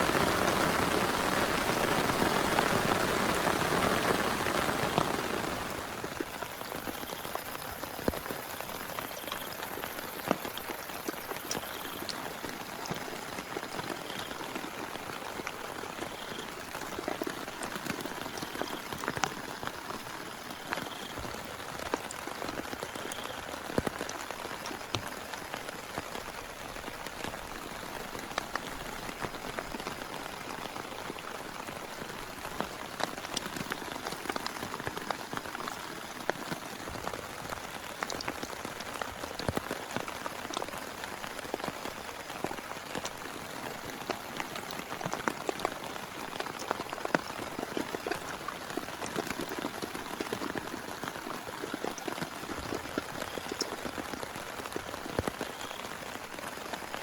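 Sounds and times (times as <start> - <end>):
heavy rain: 0.0 - 57.0
raindrops ticking nearby: 0.0 - 57.0.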